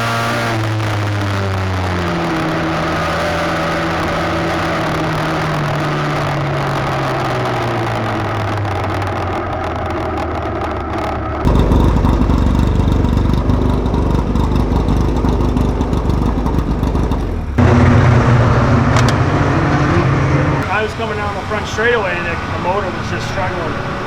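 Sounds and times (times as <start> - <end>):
race car engine running hard: 0.0 - 24.0.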